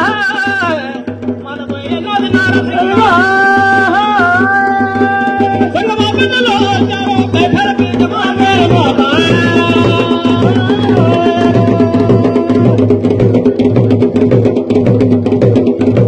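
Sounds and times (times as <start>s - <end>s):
man singing a chant: 0.0s - 12.9s
steady drum beat: 0.0s - 16.0s.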